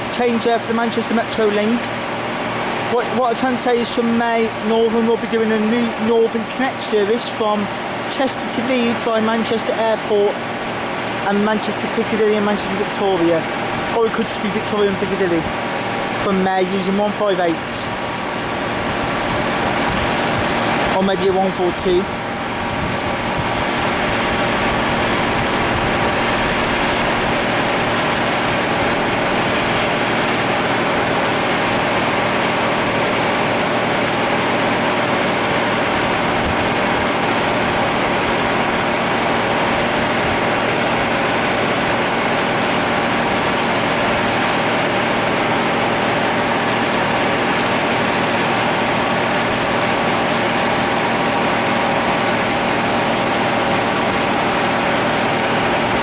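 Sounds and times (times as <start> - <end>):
train diesel engines idling: 0.0 - 56.0.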